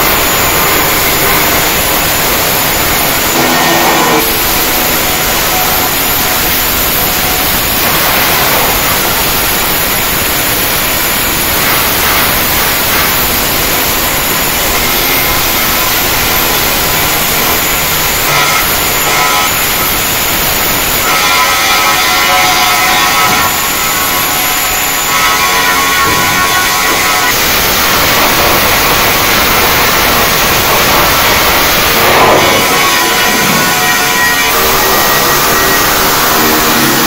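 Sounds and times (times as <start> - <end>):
welding arc hissing: 0.0 - 37.0.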